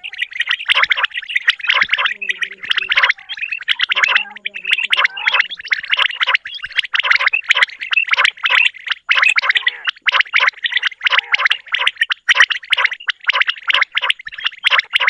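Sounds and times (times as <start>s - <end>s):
quails chirping: 0.0s - 15.0s.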